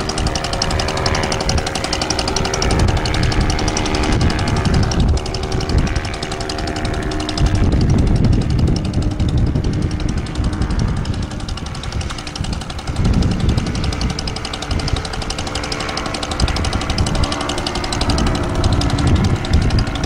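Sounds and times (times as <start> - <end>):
paramotor engine idling: 0.0 - 20.0
wind buffeting microphone: 0.0 - 20.0.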